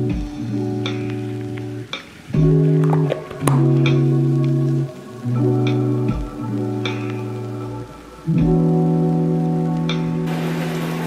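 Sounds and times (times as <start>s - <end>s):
guitar and bass music: 0.0s - 10.6s.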